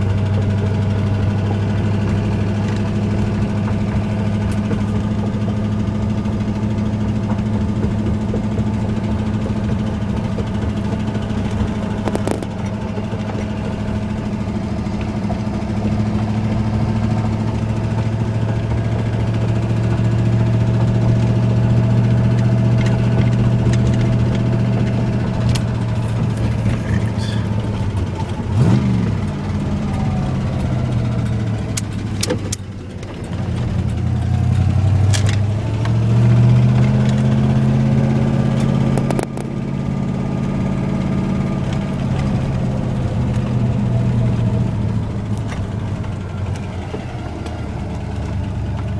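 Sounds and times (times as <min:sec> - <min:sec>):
engine running with rod knock: 0:00.0 - 0:48.9.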